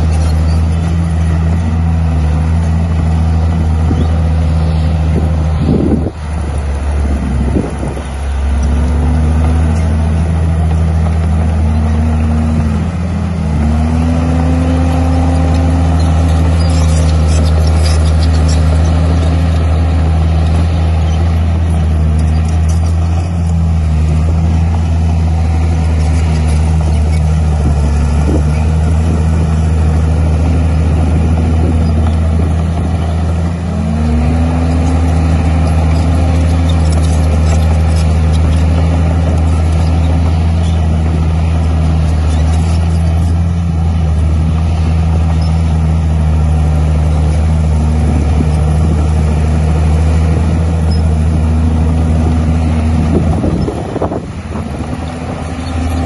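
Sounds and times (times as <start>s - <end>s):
heavy diesel engine running hard: 0.0s - 56.0s.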